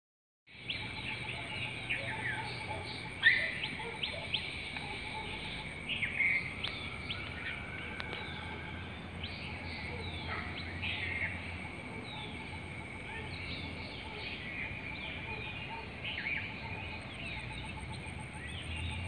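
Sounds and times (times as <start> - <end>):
steady high-pitched whine: 0.5 - 19.0
birds chirping and whistling: 0.6 - 19.0.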